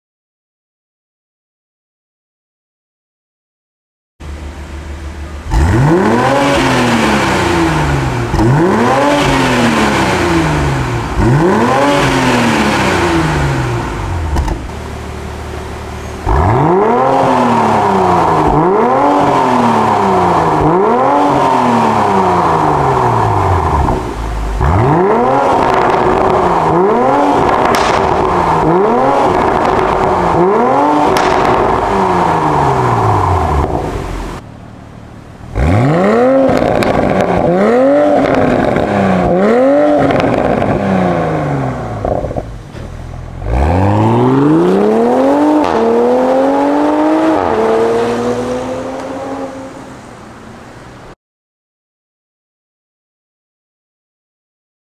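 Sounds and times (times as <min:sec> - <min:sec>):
car engine revving: 0:04.2 - 0:51.1.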